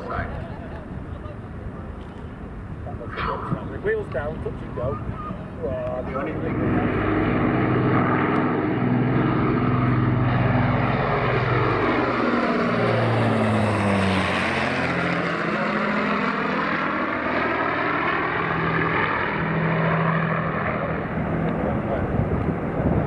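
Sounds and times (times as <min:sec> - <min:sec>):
propeller plane engines roaring: 0:00.0 - 0:23.0.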